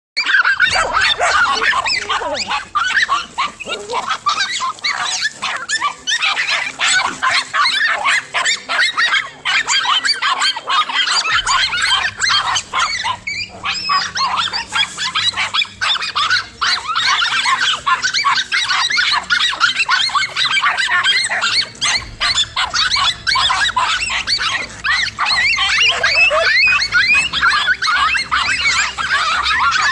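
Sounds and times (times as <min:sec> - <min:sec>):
dogs barking and fighting: 0:00.2 - 0:29.9.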